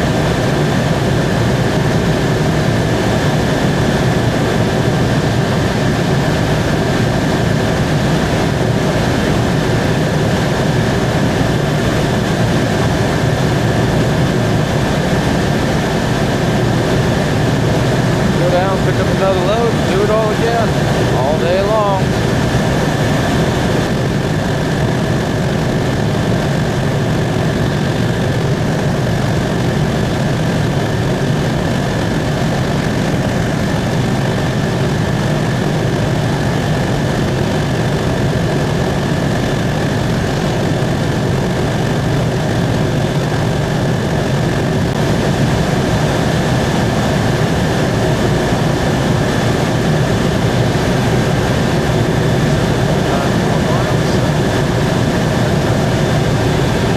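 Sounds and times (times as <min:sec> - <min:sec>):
helicopter engine and rotor drone: 0:00.0 - 0:56.9
high whine: 0:00.0 - 0:56.9.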